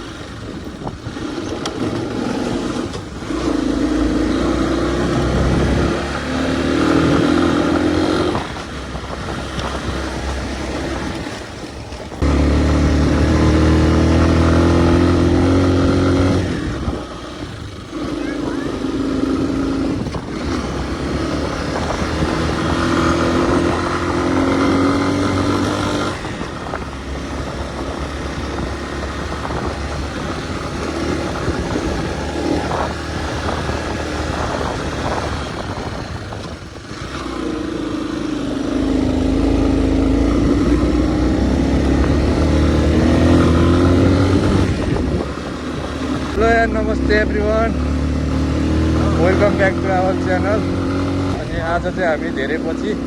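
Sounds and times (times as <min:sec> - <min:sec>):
motorcycle engine revving: 0:00.0 - 0:53.0
road noise: 0:00.0 - 0:53.0
rushing wind: 0:00.0 - 0:53.0.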